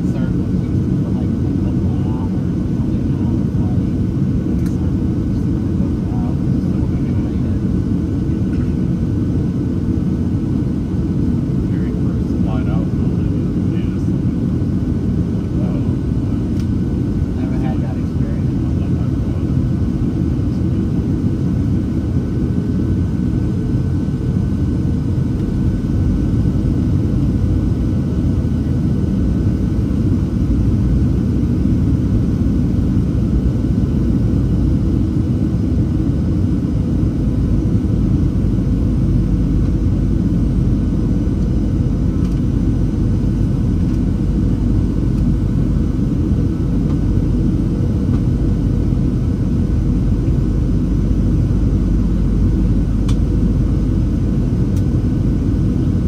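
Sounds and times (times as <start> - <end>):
jet engine rumble: 0.0 - 56.0.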